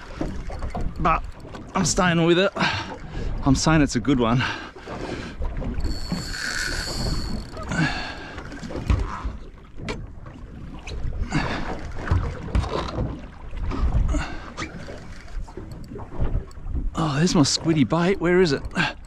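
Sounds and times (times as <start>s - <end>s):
water slapping boat hull: 0.0s - 19.0s.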